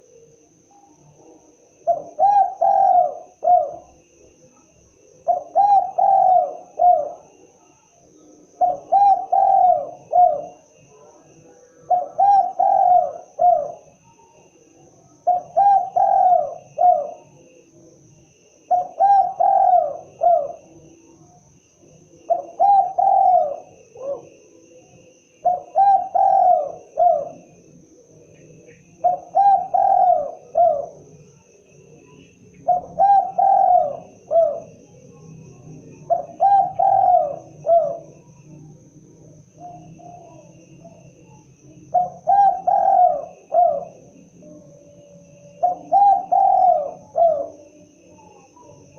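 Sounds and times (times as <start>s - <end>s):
dove cooing: 0.0s - 17.8s, 18.6s - 21.2s, 21.8s - 38.6s, 39.2s - 48.9s.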